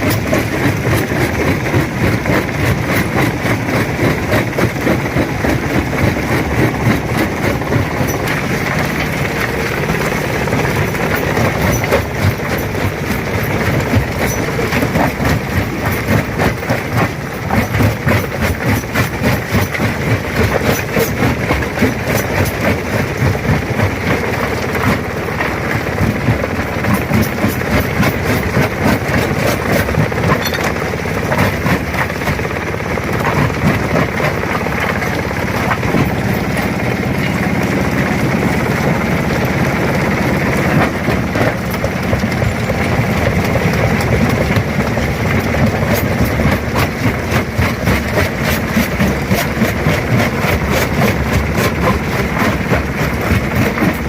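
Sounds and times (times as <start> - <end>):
rock crusher crushing stone: 0.0 - 54.0.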